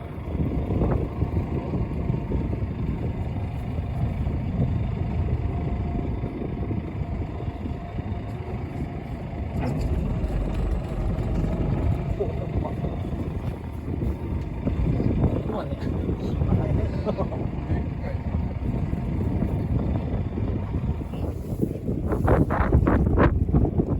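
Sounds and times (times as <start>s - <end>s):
boat engine droning: 0.0s - 23.9s.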